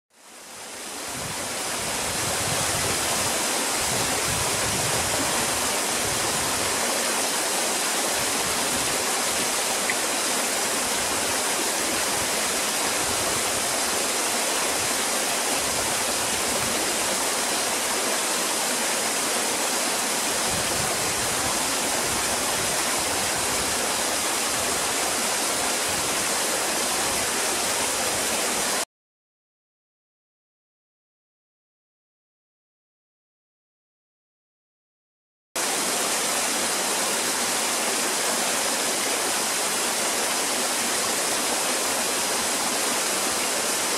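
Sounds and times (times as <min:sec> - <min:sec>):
waterfall rushing and splashing: 0:00.2 - 0:28.8, 0:35.6 - 0:43.9.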